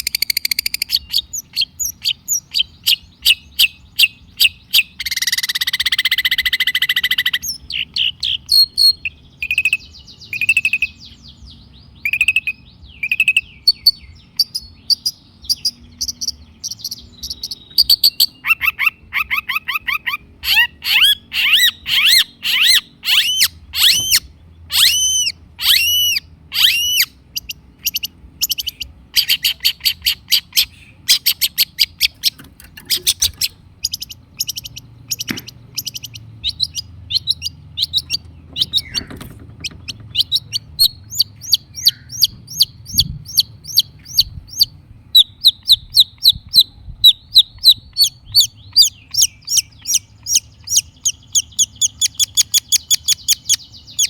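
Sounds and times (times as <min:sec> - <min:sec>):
bird singing high chirps: 0:00.0 - 0:54.0.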